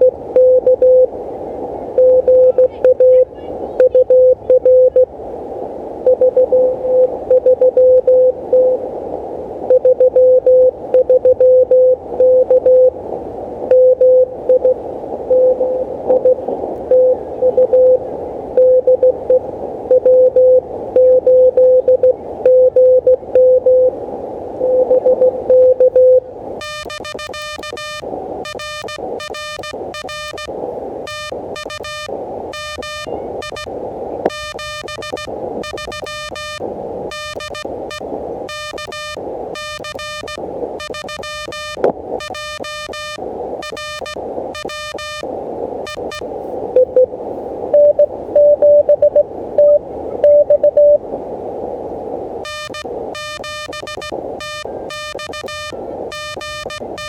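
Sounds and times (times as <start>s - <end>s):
buzzy morse sidetone: 0.0s - 1.1s, 2.0s - 5.1s, 6.0s - 8.8s, 9.7s - 13.0s, 13.7s - 18.0s, 18.6s - 23.9s, 24.6s - 46.2s, 47.7s - 51.0s, 52.4s - 57.0s
morse code tone: 0.0s - 1.1s, 2.0s - 5.1s, 6.0s - 8.8s, 9.7s - 13.0s, 13.7s - 18.0s, 18.6s - 24.0s, 24.6s - 33.7s, 34.3s - 46.2s, 46.8s - 47.1s, 47.7s - 51.0s, 52.4s - 57.0s
receiver hiss: 0.0s - 57.0s.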